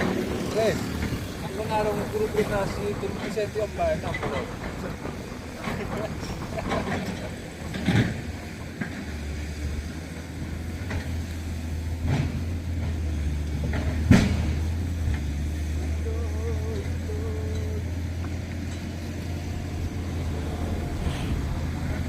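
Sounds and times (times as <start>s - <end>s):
heavy vehicle engine droning: 0.0s - 22.0s.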